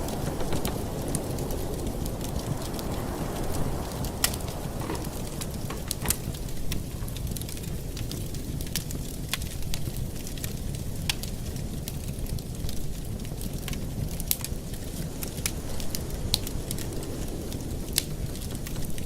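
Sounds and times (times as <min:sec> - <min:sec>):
fire low rumble: 0:00.0 - 0:19.0
fire pops and snaps: 0:00.0 - 0:19.0.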